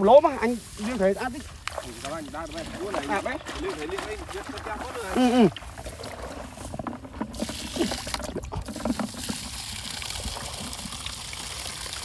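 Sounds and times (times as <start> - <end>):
water pouring onto grass: 0.0 - 12.0
water sloshing in plastic bucket: 0.0 - 12.0.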